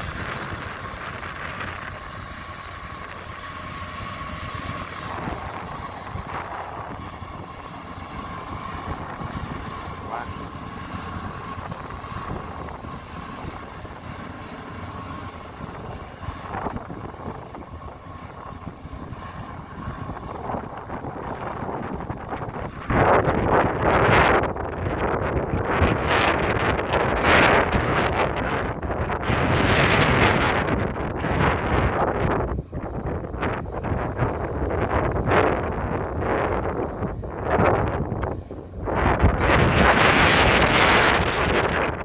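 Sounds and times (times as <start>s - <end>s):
combine harvester engine rumble: 0.0s - 42.0s
machinery whine: 0.0s - 42.0s.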